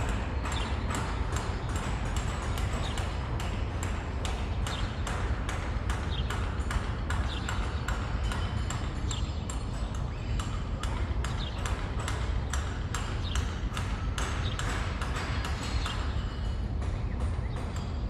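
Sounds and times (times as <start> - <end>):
sharp knocks with metallic ring: 0.0 - 18.0.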